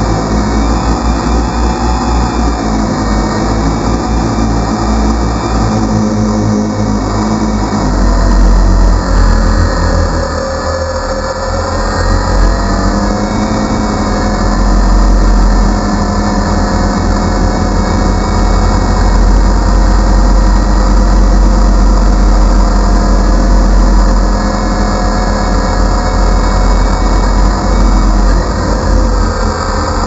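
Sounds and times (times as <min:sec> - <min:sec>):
drone motors and propellers droning: 0:00.0 - 0:30.0.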